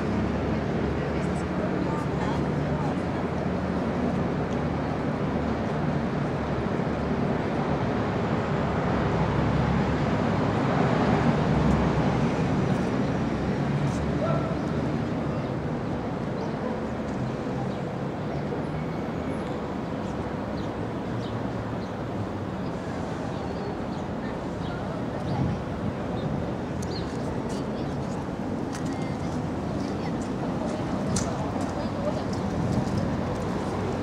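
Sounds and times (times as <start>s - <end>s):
low traffic rumble: 0.0s - 34.0s.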